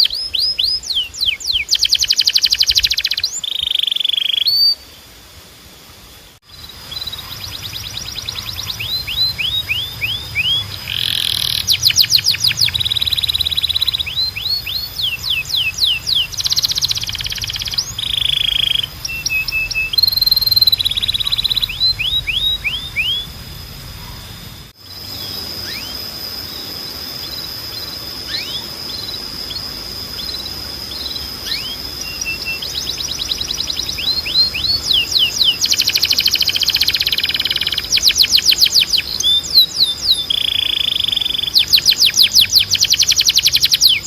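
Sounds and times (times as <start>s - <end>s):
canary singing trills: 0.0s - 5.1s, 6.4s - 44.0s
faint chirps: 0.0s - 44.0s
steady high tone: 1.1s - 44.0s.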